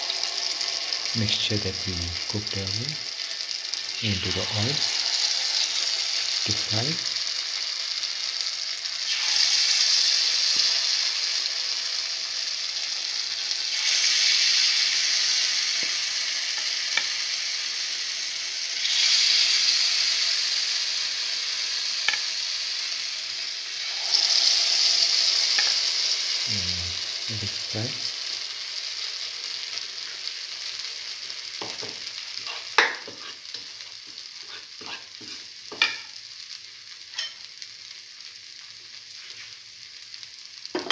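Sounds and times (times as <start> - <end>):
batter sizzling in hot oil: 0.0 - 40.9.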